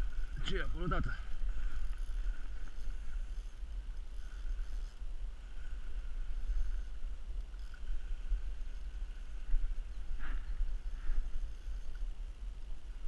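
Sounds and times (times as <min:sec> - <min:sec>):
faint thin whir: 0:00.0 - 0:13.0
wind buffeting microphone: 0:00.0 - 0:13.0.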